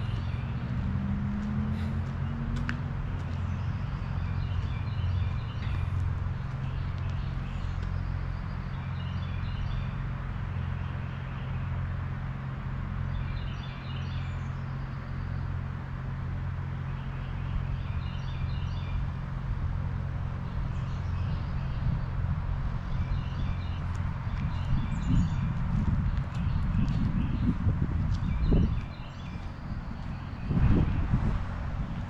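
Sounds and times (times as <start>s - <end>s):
steady low rumble: 0.0s - 10.7s, 14.4s - 32.0s
songbird singing: 0.0s - 11.7s, 13.0s - 15.6s, 16.7s - 19.2s, 20.4s - 31.2s.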